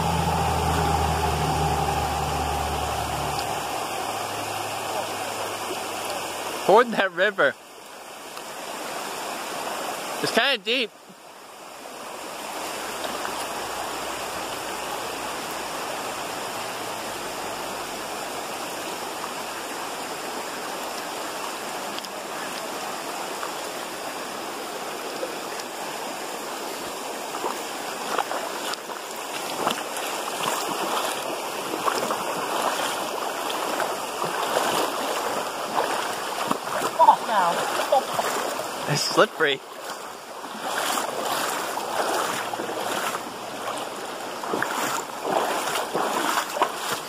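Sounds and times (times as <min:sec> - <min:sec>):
feet wading through water: 0:00.0 - 0:06.8, 0:11.8 - 0:19.0, 0:20.4 - 0:47.0
river rushing over rocks: 0:00.0 - 0:47.0.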